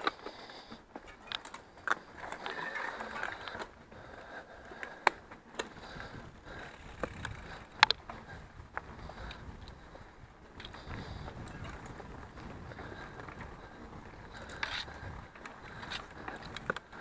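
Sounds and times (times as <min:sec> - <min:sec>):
bike rattling over bumps: 0:00.0 - 0:17.0
bike tyres crunching on dirt: 0:00.0 - 0:17.0.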